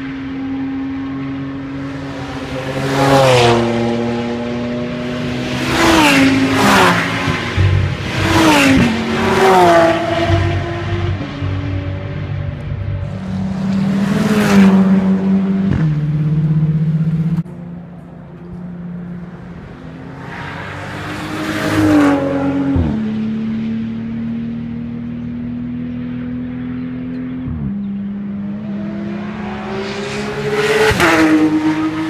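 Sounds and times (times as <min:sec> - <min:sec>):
racing cars passing at speed: 0:00.0 - 0:32.0.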